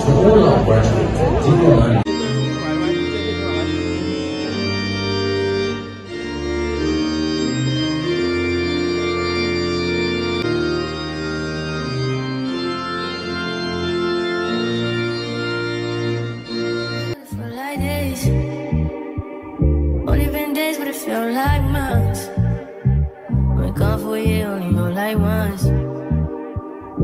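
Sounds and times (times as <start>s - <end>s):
organ music: 0.0s - 27.0s.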